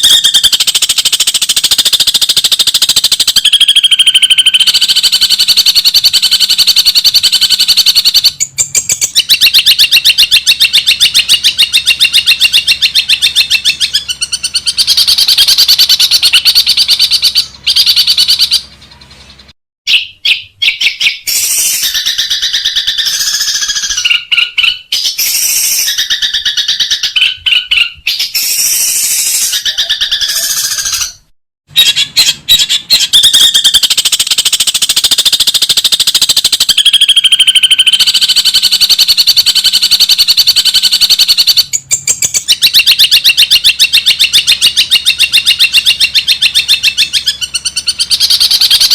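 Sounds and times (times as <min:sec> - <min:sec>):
bird chattering song: 0:00.0 - 0:48.9.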